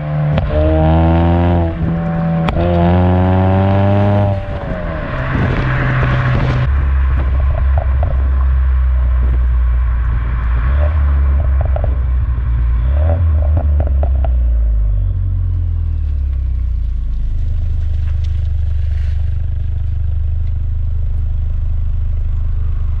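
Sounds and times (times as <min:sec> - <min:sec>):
car exhaust droning: 0:00.0 - 0:23.0
exhaust crackles: 0:00.0 - 0:23.0.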